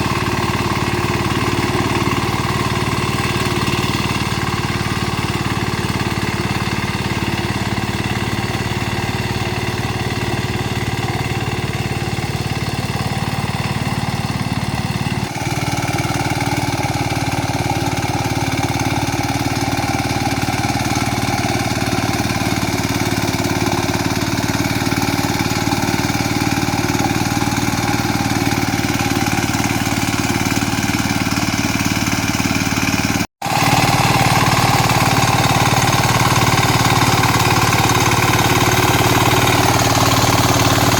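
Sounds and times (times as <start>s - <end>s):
small tractor engine running: 0.0s - 40.9s.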